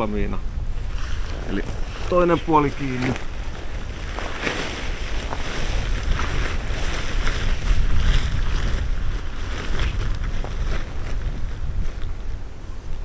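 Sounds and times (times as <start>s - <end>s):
wind buffeting microphone: 0.0s - 13.0s
tarp rustling and flapping: 0.8s - 12.4s.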